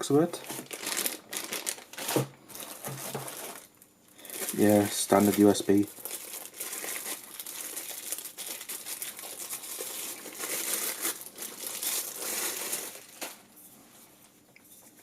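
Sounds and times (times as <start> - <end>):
packaging crinkling and rustling: 0.1 - 13.5.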